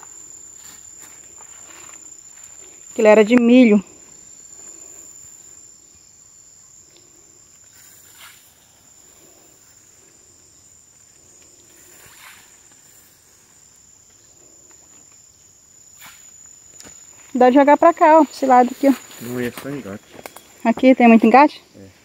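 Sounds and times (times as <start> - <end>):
high-pitched insect trill: 0.0 - 22.0.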